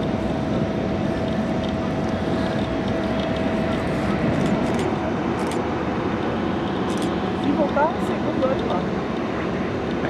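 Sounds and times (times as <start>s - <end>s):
jet engine rushing: 0.0s - 10.0s
thin steady whine: 0.0s - 10.0s.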